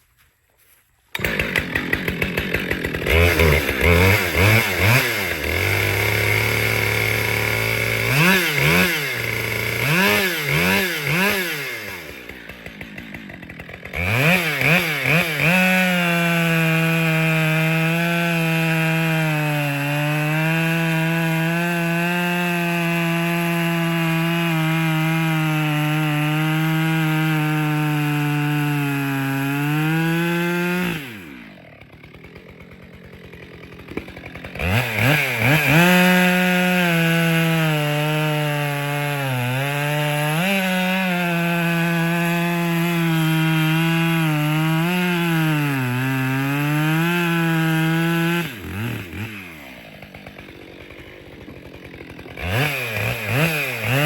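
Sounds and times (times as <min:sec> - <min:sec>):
chainsaw revving and sawing: 0:01.1 - 0:54.0.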